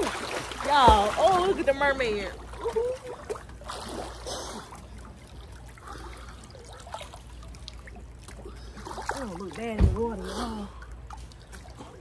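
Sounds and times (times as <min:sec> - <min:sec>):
pool water lapping: 0:00.0 - 0:12.0
water running off swimmer: 0:00.0 - 0:12.0.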